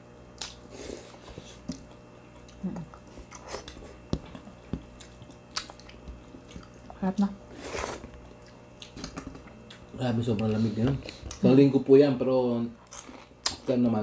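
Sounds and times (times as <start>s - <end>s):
people chewing: 0.4s - 11.6s, 12.8s - 13.8s.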